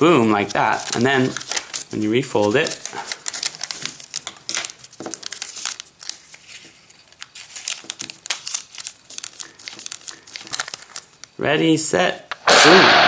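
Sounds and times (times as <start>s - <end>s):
paper crinkling and rustling: 0.0s - 11.4s.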